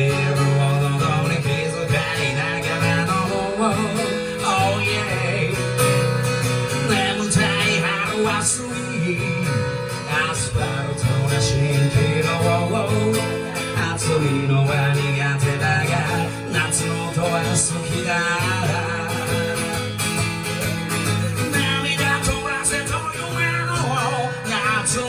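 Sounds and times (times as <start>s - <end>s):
strummed and plucked guitar: 0.0s - 25.0s.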